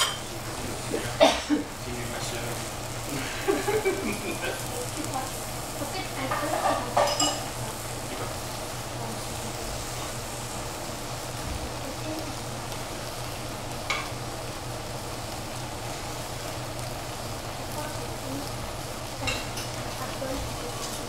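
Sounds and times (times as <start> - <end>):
food sizzling in a pan: 0.0 - 21.0
steady low hum: 0.0 - 21.0.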